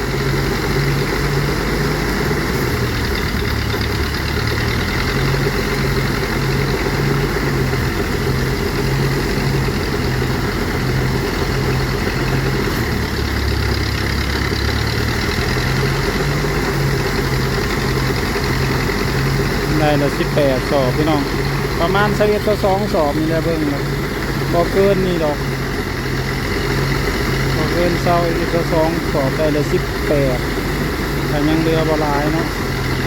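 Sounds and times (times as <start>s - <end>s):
threshing machine engine running: 0.0s - 33.0s.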